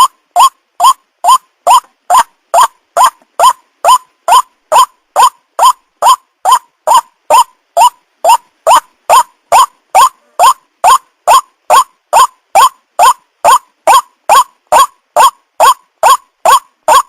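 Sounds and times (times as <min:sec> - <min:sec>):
waterhen upward-sweeping call: 0:00.0 - 0:17.0.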